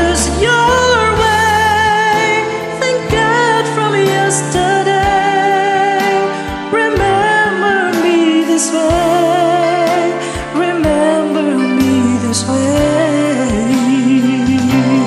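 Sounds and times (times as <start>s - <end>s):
karaoke backing track drum beat: 0.0s - 15.0s
person singing pop ballad: 0.0s - 15.0s.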